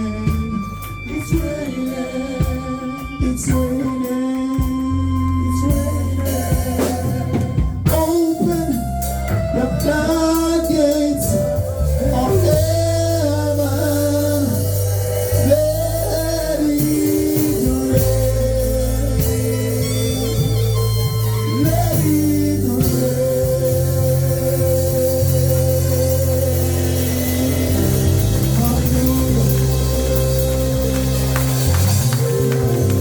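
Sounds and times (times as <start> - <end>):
person singing long notes: 0.0 - 31.3
band with bass guitar drums: 0.0 - 33.0.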